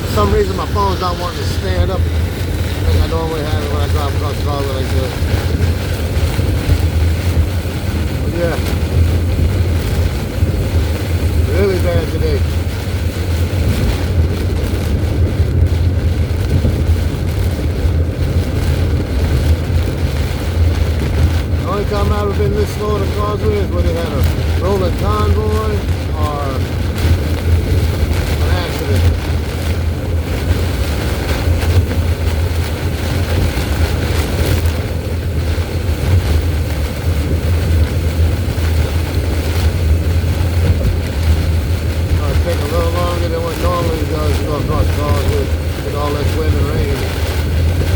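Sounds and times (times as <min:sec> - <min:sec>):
heavy rain buffeting car: 0:00.0 - 0:47.9
road and wind noise in vehicle: 0:00.0 - 0:47.9.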